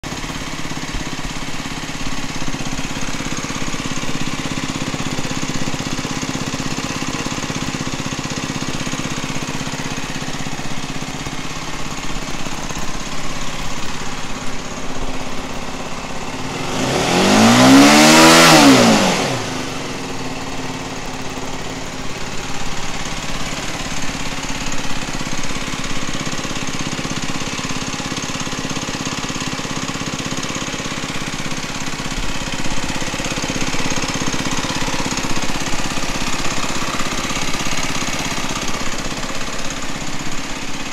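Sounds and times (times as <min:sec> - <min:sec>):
motorcycle engine idling: 0:00.0 - 0:40.9
motorcycle engine revving: 0:00.0 - 0:40.9.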